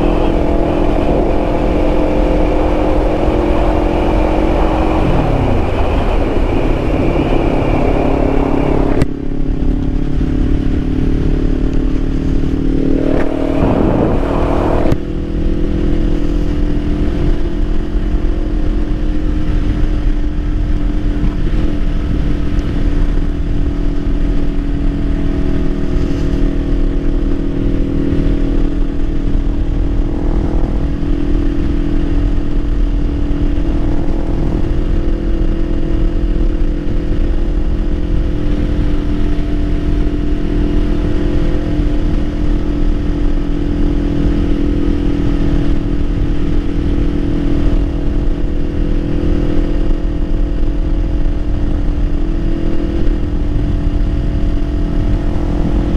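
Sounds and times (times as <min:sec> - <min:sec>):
noise surge: 0:00.0 - 0:19.2, 0:23.1 - 0:47.1, 0:51.2 - 0:55.9
motorcycle engine running: 0:00.0 - 0:55.9
wind noise on microphone: 0:00.0 - 0:55.9.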